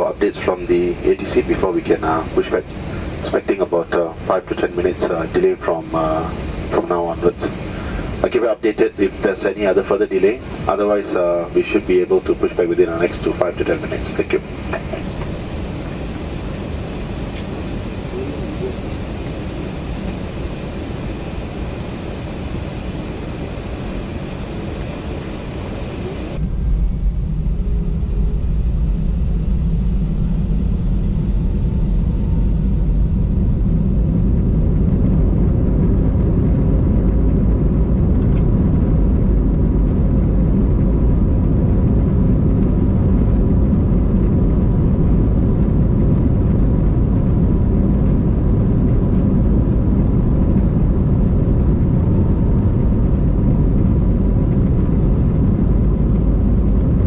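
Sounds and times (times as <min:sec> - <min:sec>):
airplane cabin hum: 0:00.0 - 0:57.0
deep rumble of engines and wheels: 0:00.0 - 0:57.0
faint high whine: 0:00.0 - 0:57.0.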